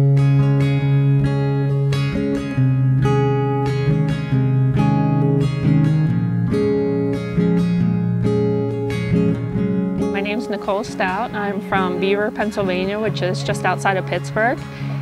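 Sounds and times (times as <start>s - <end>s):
strummed guitar chords: 0.0s - 15.0s.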